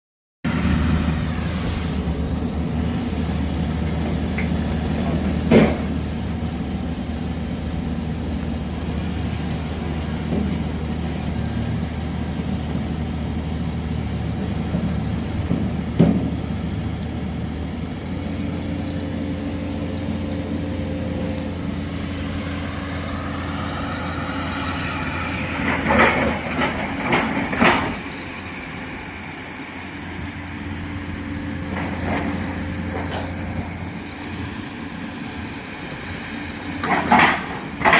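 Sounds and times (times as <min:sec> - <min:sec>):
piling rig engine running: 0:00.5 - 0:37.9.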